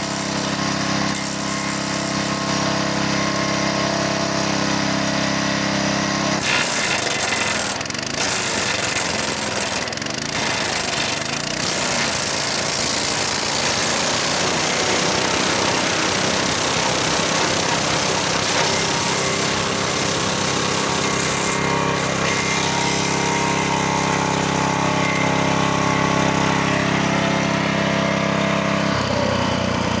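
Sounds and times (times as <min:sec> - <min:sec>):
wood chipper engine running: 0:00.0 - 0:30.0.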